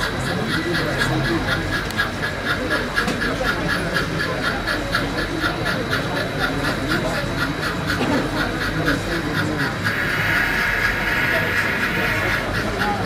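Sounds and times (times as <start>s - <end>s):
model steam locomotive chuffing: 0.0s - 13.0s
murmur of voices: 0.0s - 13.0s.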